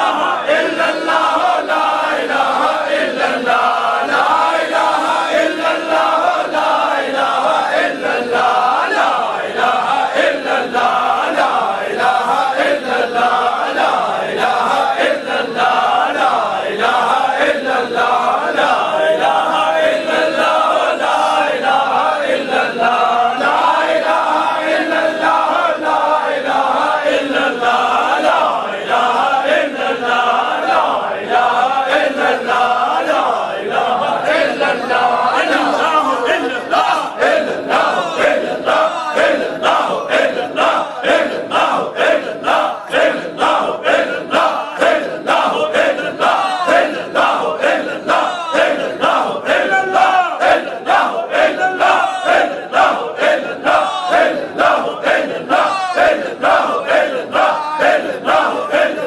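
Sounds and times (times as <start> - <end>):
men chanting: 0.0 - 59.0.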